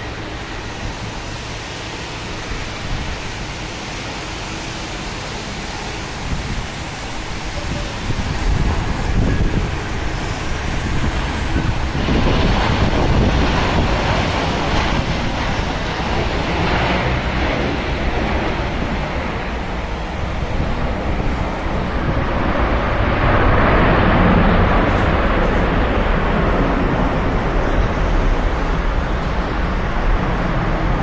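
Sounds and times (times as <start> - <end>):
tyres hissing on wet road: 0.0 - 31.0
wind buffeting microphone: 0.0 - 31.0.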